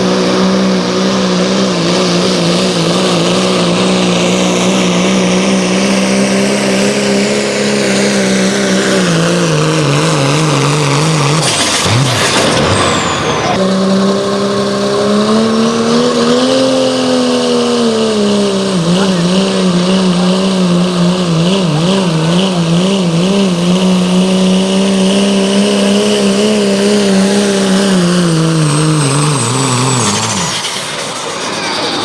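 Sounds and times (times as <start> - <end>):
engine running at high revs: 0.0 - 32.0.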